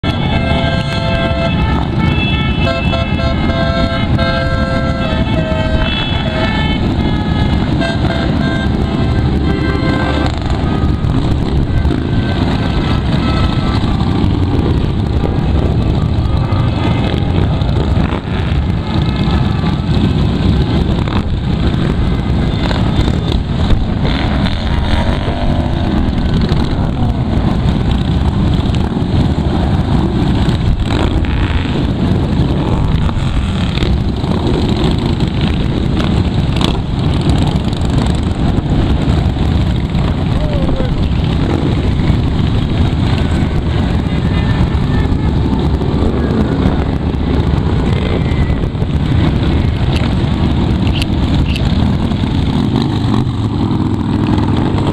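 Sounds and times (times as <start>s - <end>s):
motorcycles riding past: 0.1s - 54.9s.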